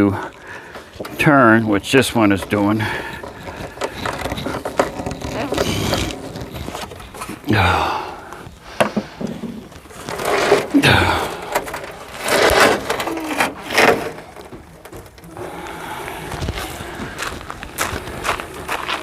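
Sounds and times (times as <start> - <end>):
short creaks: 2.2 - 19.0.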